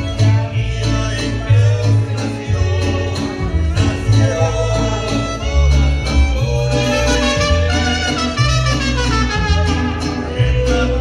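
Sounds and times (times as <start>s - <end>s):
deep plucked bass notes: 0.0s - 11.0s
guitars strummed: 0.0s - 11.0s
mariachi band playing: 0.0s - 11.0s.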